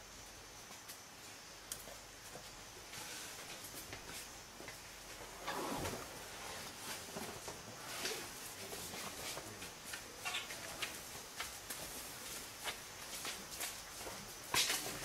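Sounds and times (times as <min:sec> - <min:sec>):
elephant footsteps on brick floor: 0:00.6 - 0:15.0.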